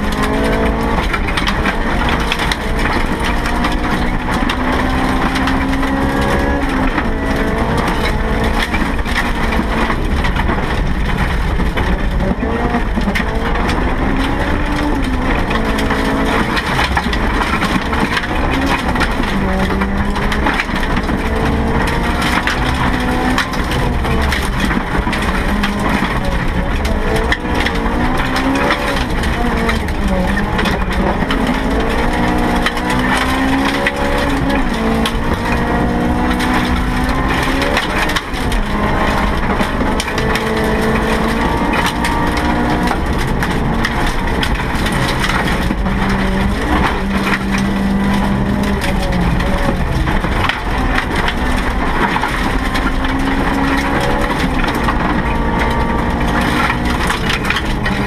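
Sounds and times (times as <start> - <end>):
rally car engine revving through gears: 0.0 - 58.0
road and cabin rattle: 0.0 - 58.0.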